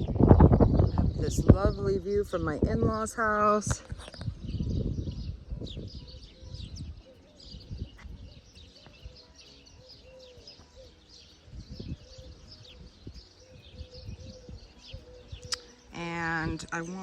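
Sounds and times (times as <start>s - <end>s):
low microphone rumbles: 0.0s - 9.1s, 10.6s - 16.9s
songbirds chirping: 0.0s - 17.0s.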